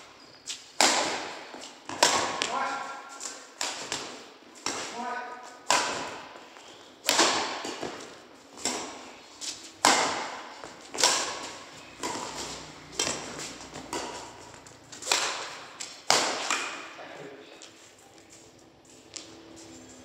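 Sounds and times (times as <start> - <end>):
rackets striking shuttlecock: 0.5 - 16.9.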